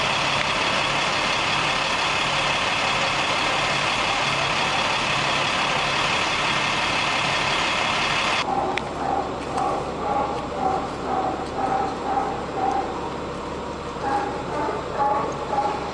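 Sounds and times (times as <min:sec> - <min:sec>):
large vehicle engine idling: 0:00.0 - 0:15.9.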